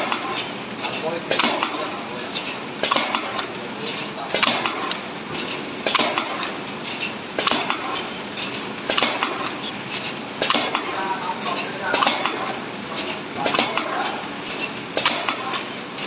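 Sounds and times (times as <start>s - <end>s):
metallic clack and clatter: 0.0s - 16.0s
steady mechanical running noise: 0.0s - 16.0s.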